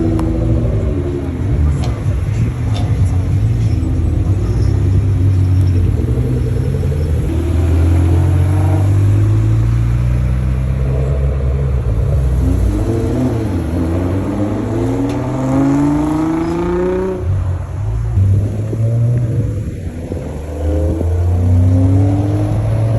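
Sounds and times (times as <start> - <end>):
car engine accelerating: 0.0 - 22.9
sports car engines rumbling: 0.0 - 22.9.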